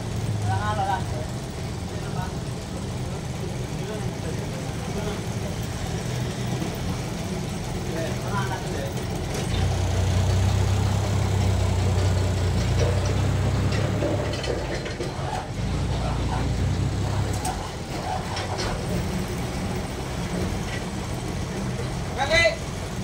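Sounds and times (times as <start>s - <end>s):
forklift engine running: 0.0s - 23.0s.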